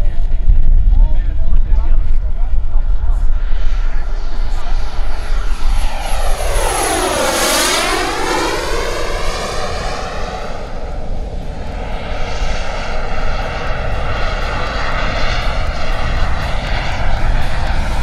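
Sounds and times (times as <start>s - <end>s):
model jet turbine whine: 1.6s - 18.0s.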